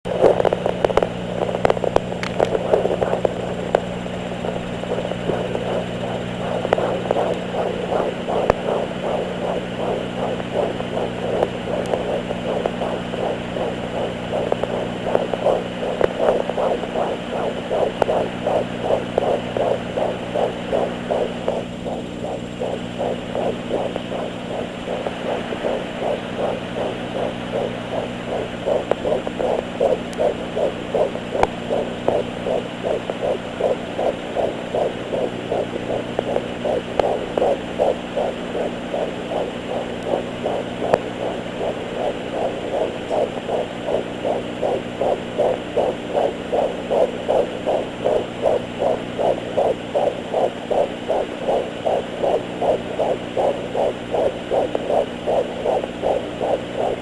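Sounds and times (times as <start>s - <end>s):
low electrical hum: 0.0s - 57.0s
fetal heartbeat whooshing: 0.1s - 57.0s.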